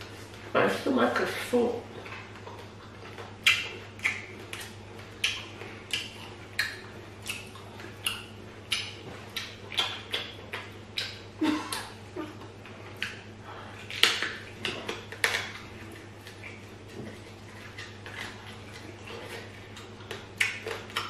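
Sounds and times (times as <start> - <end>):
wet lip smacks chewing: 2.0 - 12.0, 12.9 - 21.0.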